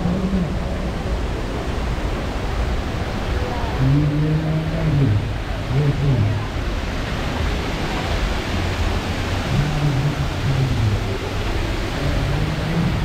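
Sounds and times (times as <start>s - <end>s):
crowd noise: 0.0s - 13.0s
traffic noise: 0.0s - 13.0s.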